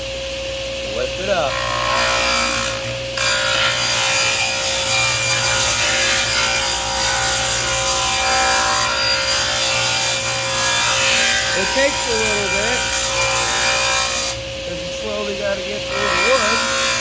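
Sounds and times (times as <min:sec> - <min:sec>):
table saw humming: 0:00.0 - 0:17.0
table saw blade rasping wood: 0:01.3 - 0:14.4, 0:15.1 - 0:17.0.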